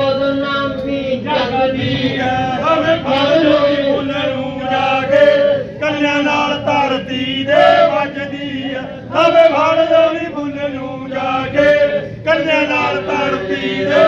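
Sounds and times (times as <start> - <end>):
man singing in chanting style: 0.0 - 14.0.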